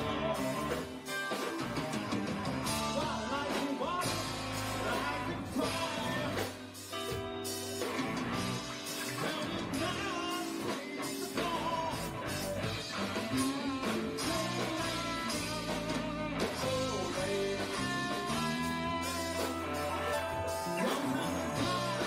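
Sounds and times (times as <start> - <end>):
person singing: 0.0 - 7.2, 8.8 - 22.0
bass guitar: 0.0 - 22.0
drums: 0.0 - 22.0
electric guitar: 0.0 - 22.0
keyboards: 0.0 - 22.0.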